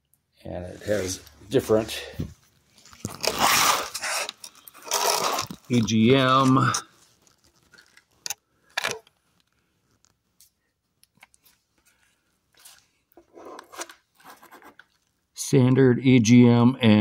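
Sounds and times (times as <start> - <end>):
handling noises: 0.8 - 15.1.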